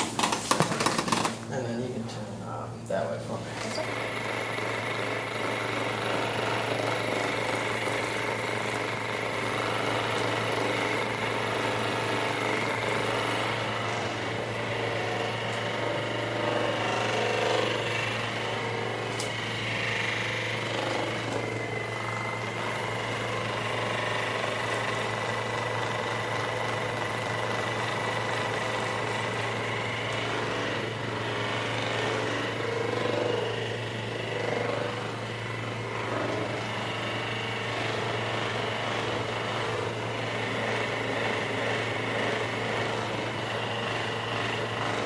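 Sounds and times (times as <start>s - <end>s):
massage gun buzzing: 0.0s - 1.6s, 3.5s - 45.0s.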